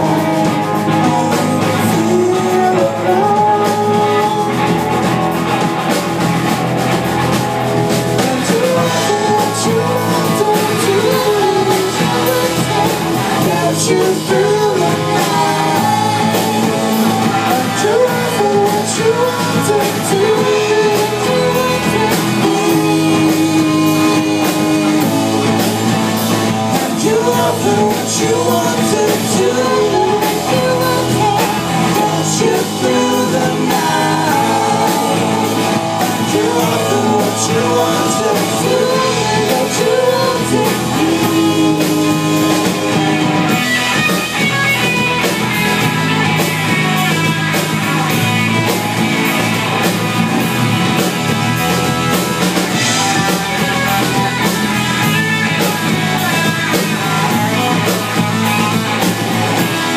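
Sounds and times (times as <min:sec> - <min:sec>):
person singing: 0:00.0 - 0:05.6, 0:07.9 - 0:48.6, 0:51.6 - 0:59.9
drum kit with cymbal hits: 0:00.0 - 0:59.9
electric guitars: 0:00.0 - 0:59.9.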